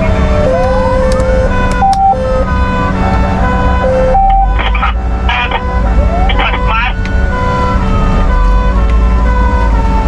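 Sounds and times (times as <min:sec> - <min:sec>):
fire engine electronic siren: 0:00.0 - 0:10.0
truck engine drone: 0:00.0 - 0:10.0.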